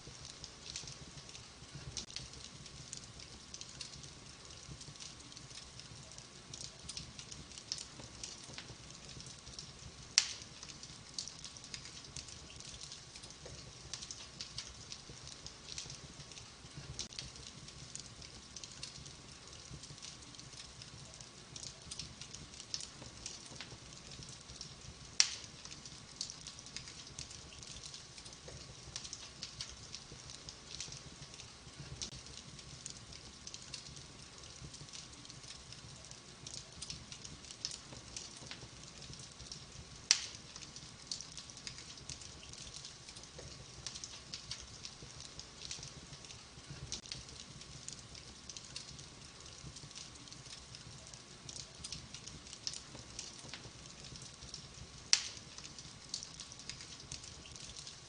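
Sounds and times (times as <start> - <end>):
wood fire crackling: 0.0 - 58.0
loud fire pops: 6.6 - 58.0.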